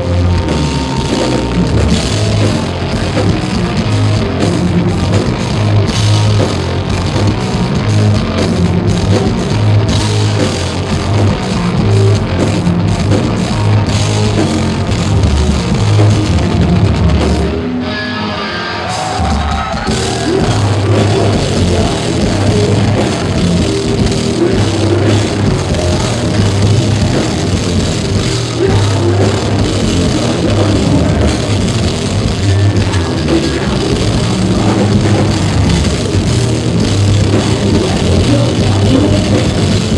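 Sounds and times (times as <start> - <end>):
bass guitar: 0.0 - 39.9
distorted guitars: 0.0 - 39.9
drum kit: 0.0 - 39.9.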